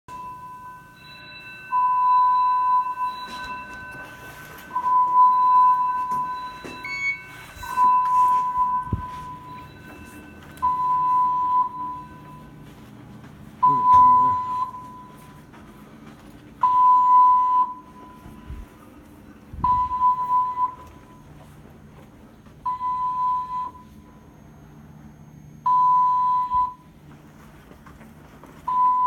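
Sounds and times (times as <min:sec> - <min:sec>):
pulsing fire alarm tone: 0:00.1 - 0:13.0, 0:13.6 - 0:15.6, 0:16.6 - 0:21.6, 0:22.6 - 0:27.0, 0:28.7 - 0:29.0.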